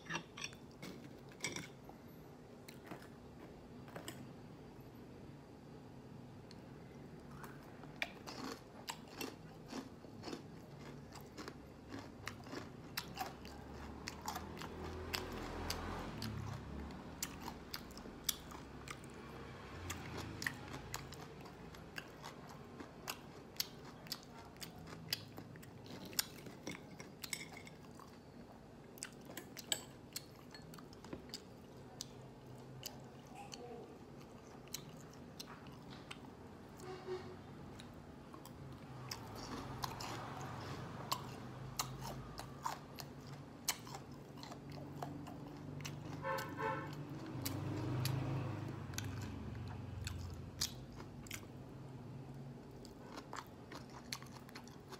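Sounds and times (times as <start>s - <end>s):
person chewing crunchy food: 0.0s - 2.0s, 7.2s - 36.9s, 37.7s - 51.7s, 52.6s - 54.9s.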